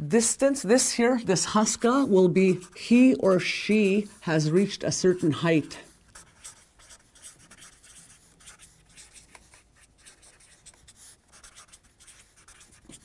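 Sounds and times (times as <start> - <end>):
marker scratching on paper: 1.5 - 13.0.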